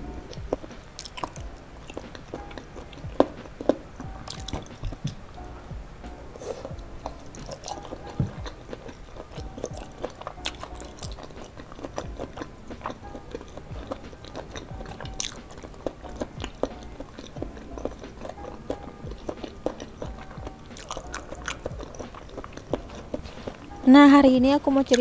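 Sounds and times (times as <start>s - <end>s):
wet chewing and biting: 0.0s - 23.9s.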